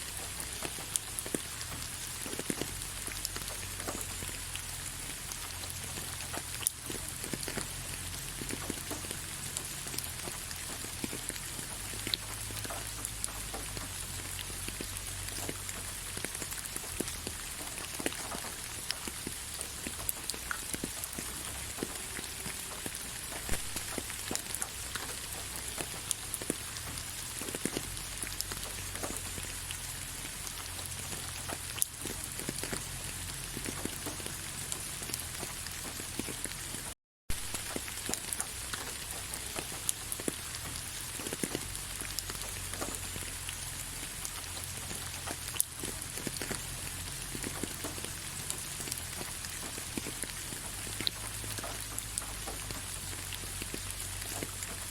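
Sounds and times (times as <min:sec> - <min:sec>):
gentle rain hiss: 0:00.0 - 0:54.9
raindrops tapping: 0:00.0 - 0:54.9.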